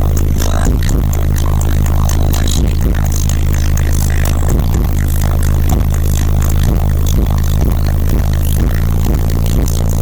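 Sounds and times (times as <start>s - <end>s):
crackling rattle and buzz: 0.0s - 10.0s
subwoofers playing deep bass: 0.0s - 10.0s.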